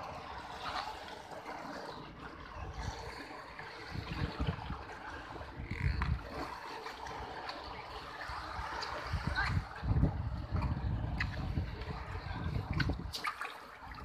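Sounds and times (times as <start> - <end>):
water trickling and sloshing: 0.0 - 14.0.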